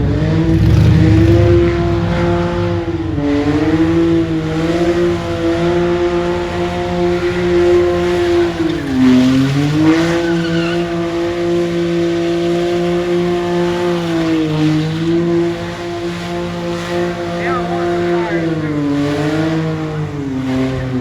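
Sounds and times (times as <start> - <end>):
car engine at high revs: 0.0 - 21.0
tyre noise: 0.0 - 21.0.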